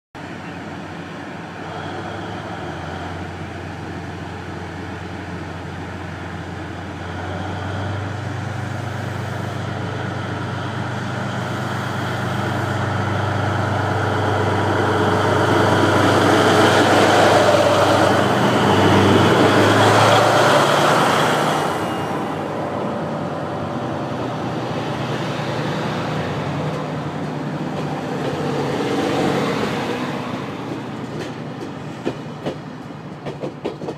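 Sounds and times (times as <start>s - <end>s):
diesel locomotive engine: 0.2s - 33.9s.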